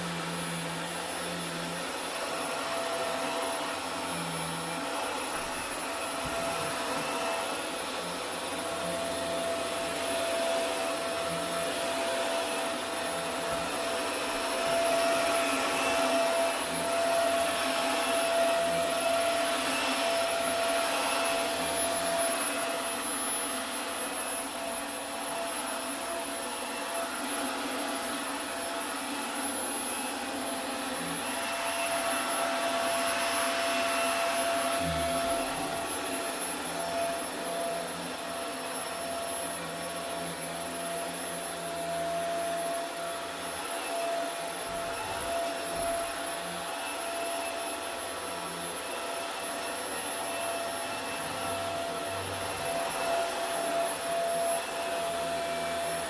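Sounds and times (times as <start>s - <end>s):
vacuum cleaner whining: 0.0s - 56.0s.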